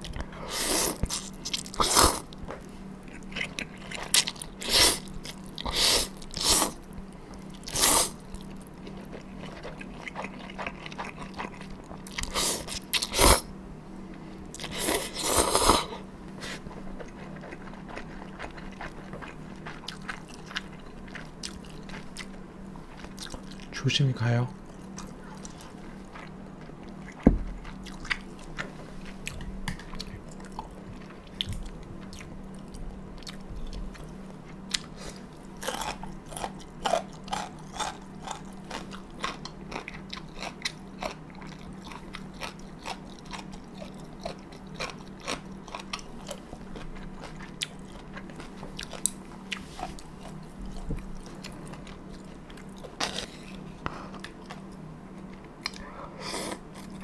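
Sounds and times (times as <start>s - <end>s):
chewing noodles: 0.0s - 13.4s, 14.5s - 23.8s, 24.6s - 57.0s
steady low hum: 0.0s - 57.0s.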